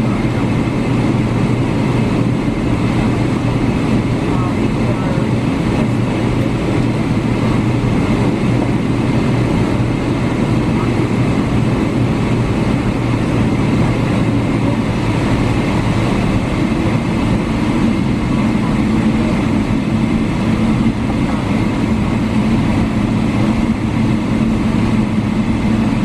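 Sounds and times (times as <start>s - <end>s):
jet engines running low: 0.0s - 26.0s
wheel and airframe rumble: 0.0s - 26.0s.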